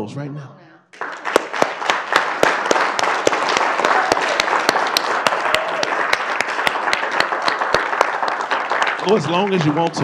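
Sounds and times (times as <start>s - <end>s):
audience applauding: 1.0s - 10.0s
close sharp clapping: 1.0s - 10.0s.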